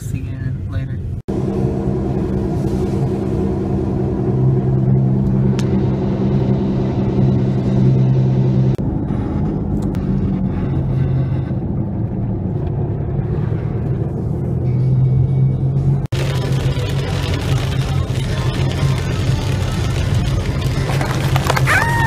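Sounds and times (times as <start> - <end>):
car engine humming: 0.0 - 22.0.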